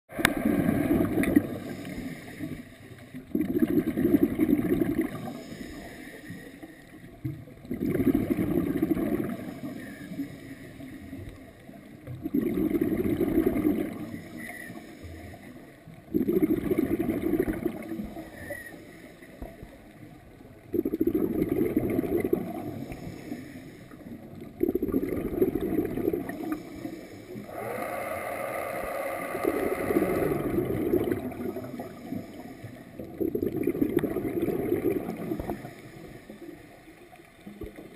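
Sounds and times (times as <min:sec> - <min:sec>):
underwater regulator bubbling: 0:00.1 - 0:37.9.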